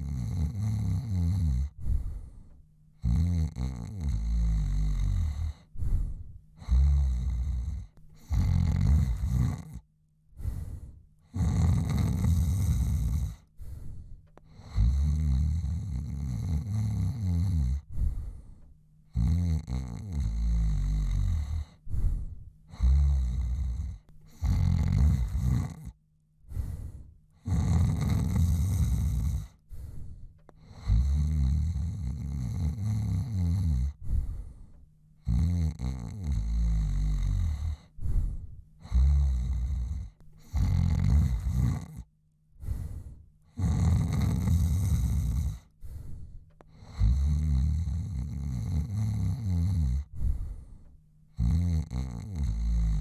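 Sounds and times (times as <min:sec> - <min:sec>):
man snoring: 0:00.0 - 0:02.3, 0:03.0 - 0:09.8, 0:10.4 - 0:13.8, 0:14.4 - 0:34.5, 0:35.2 - 0:46.0, 0:46.6 - 0:50.6, 0:51.3 - 0:53.0.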